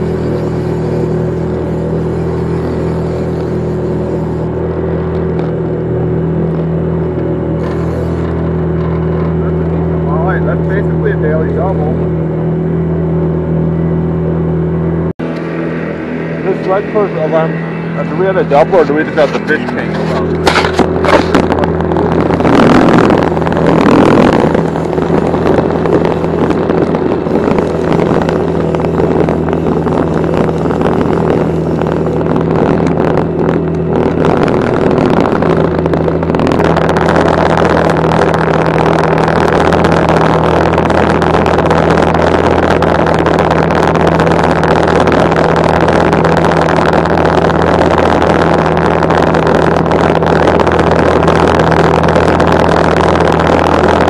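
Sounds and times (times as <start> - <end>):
outboard motor humming: 0.0 - 54.0.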